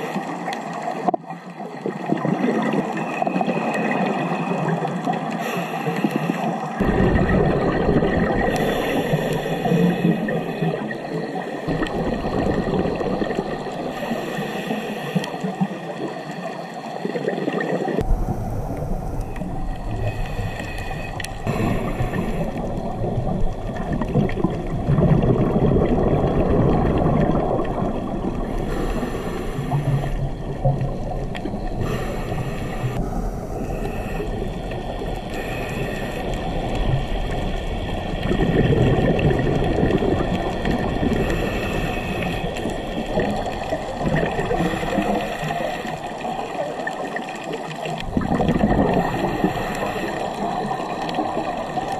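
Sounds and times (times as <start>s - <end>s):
underwater rushing and gurgling: 0.0s - 51.9s.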